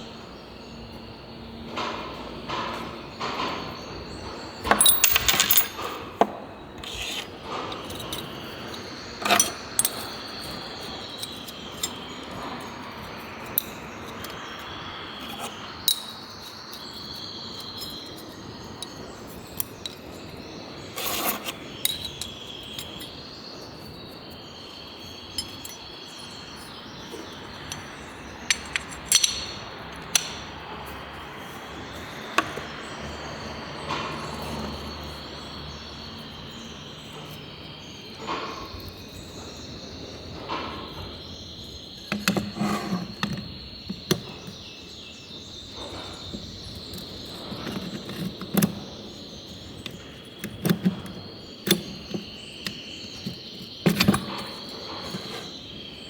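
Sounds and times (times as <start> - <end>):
insects chirring: 0.0 - 56.0
tools and engine parts clinking: 1.7 - 55.8.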